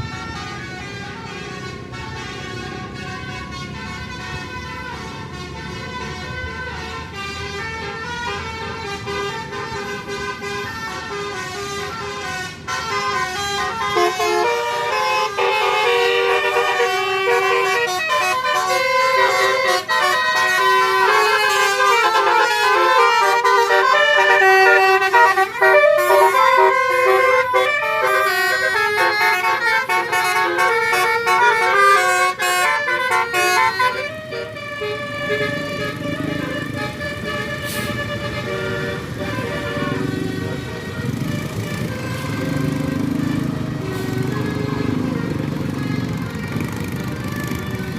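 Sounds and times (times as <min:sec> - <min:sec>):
bus horn playing fast tune: 0:00.0 - 0:47.9.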